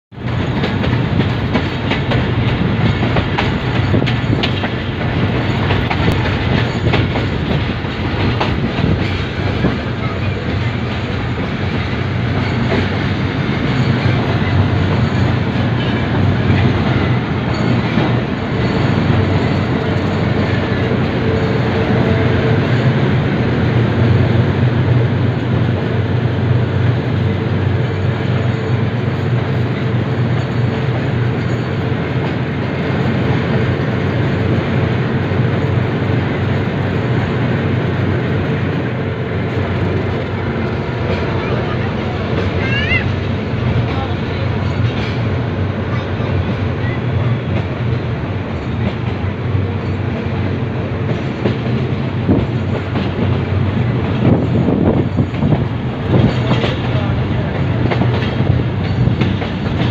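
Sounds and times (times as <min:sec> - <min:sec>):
wheels rumbling on rails: 0:00.1 - 0:59.9.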